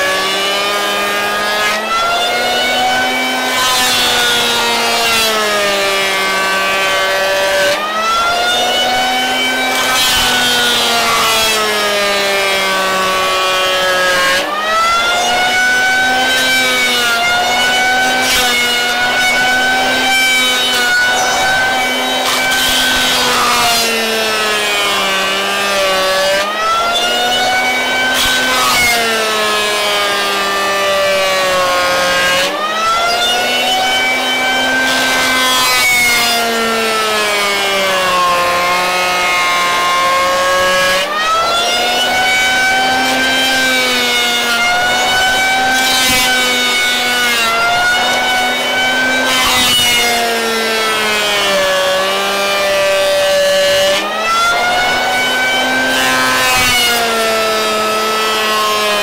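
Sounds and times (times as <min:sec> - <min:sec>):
electric planer motor whine: 0:00.0 - 0:59.0
planer shaving wood: 0:00.0 - 0:59.0.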